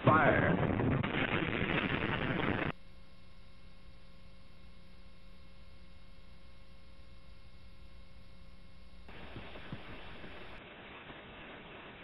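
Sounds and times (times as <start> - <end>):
electrical hum: 0.0 - 10.8
faint hiss: 1.7 - 12.0.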